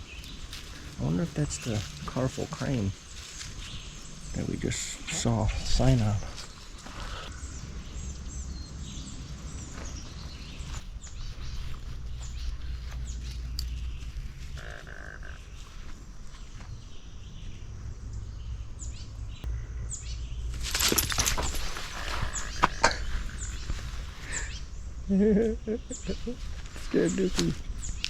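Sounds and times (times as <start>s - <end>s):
low rumble: 0.0s - 25.2s
wild birds chirping: 0.0s - 28.0s.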